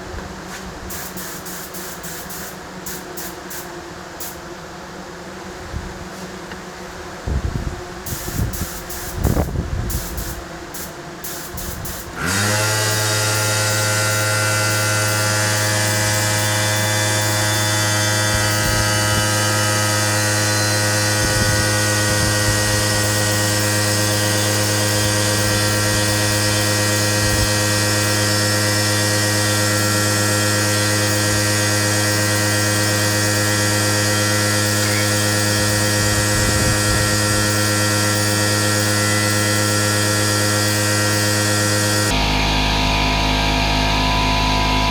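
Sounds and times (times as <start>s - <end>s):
air compressor motor humming: 0.0s - 4.5s, 6.8s - 44.9s
spray gun hissing: 0.3s - 4.5s, 7.9s - 42.2s.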